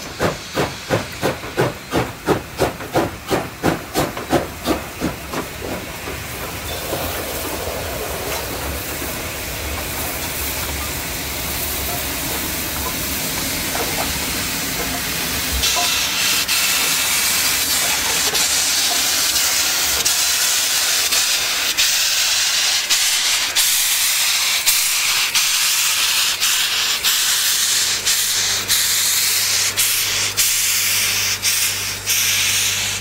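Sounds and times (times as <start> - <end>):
steam venting hiss: 0.0 - 33.0
train clicking over track: 0.0 - 33.0.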